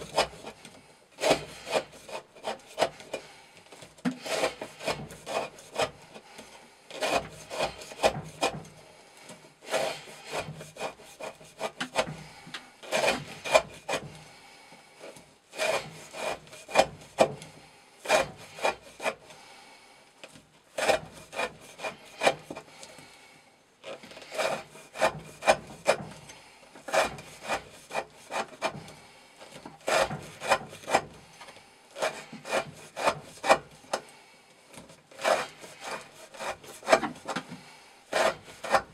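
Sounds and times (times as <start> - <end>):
knife scraping wood: 0.0 - 19.6, 20.2 - 23.2, 23.8 - 38.9.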